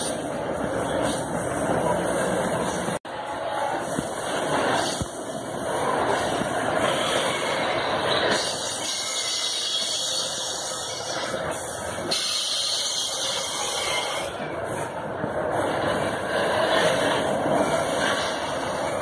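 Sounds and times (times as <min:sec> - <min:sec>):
freight train wagons rolling past: 0:00.0 - 0:19.0.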